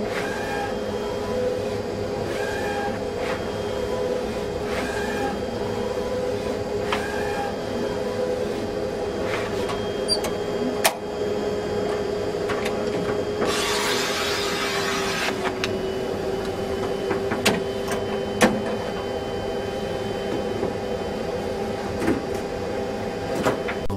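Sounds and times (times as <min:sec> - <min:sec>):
plotter motor whine: 0:00.0 - 0:23.9.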